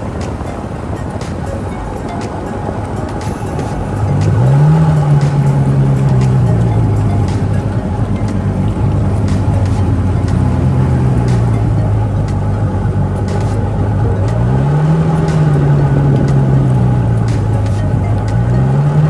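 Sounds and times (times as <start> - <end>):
jet ski engine revving: 0.0 - 19.0.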